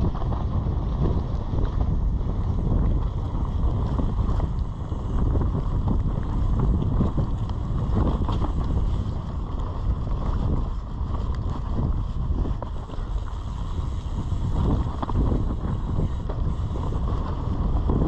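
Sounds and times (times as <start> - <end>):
bike knocking and rattling: 0.0 - 18.0
tyres rolling on dirt: 0.0 - 18.0
wind rushing over microphone: 0.0 - 18.0.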